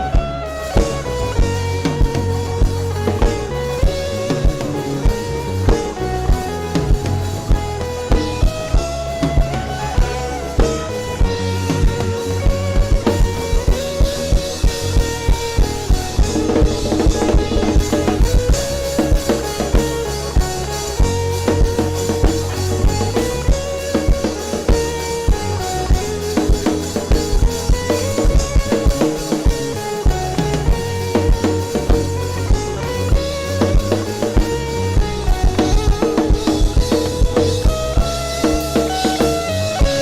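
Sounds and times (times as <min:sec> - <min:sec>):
drum kit beat: 0:00.0 - 0:40.0
held keyboard chords: 0:00.0 - 0:40.0.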